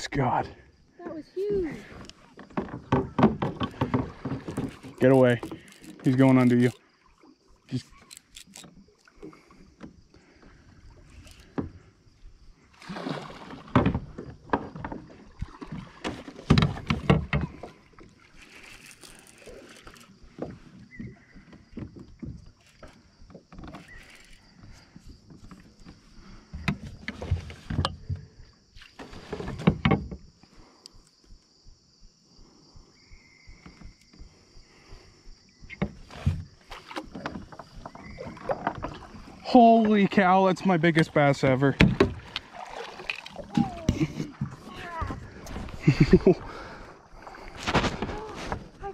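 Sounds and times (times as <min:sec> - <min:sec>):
water splashing against kayak: 0:00.2 - 0:31.8, 0:32.4 - 0:48.9.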